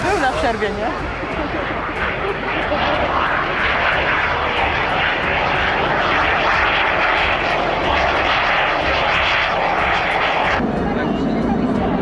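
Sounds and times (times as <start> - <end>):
jet flying past: 0.0 - 12.0.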